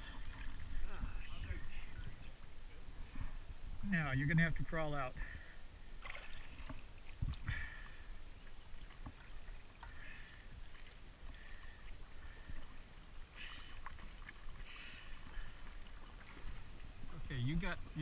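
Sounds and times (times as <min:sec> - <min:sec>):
water sloshing and splashing: 0:00.0 - 0:03.7, 0:05.8 - 0:18.0.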